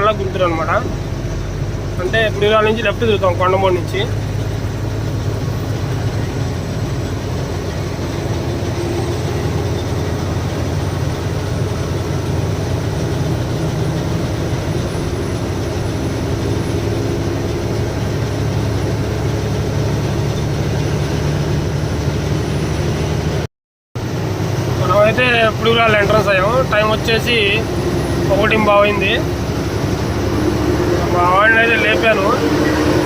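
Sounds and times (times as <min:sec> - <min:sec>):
road noise: 0:00.0 - 0:33.0
truck diesel engine cruising: 0:00.0 - 0:33.0.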